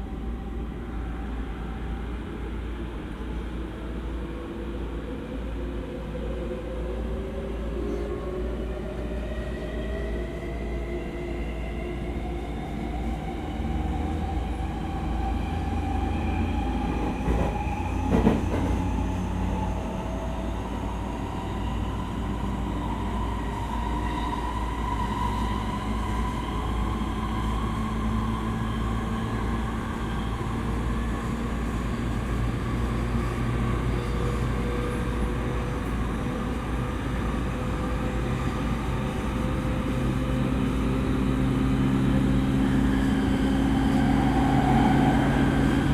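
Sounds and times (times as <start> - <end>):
wheels rumbling on rail: 0.0 - 45.9.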